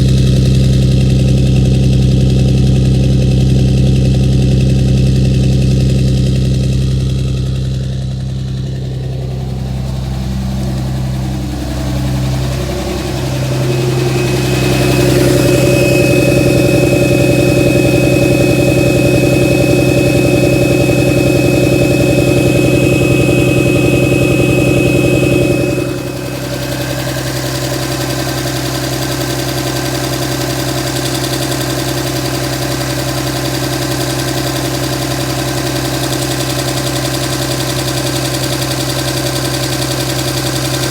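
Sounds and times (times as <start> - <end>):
diesel engine idling: 0.0 - 40.9
high steady whine: 7.2 - 40.9.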